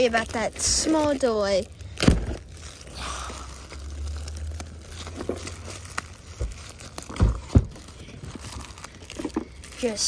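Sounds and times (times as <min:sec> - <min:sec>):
plastic wrap crinkling and tearing: 0:00.0 - 0:10.0.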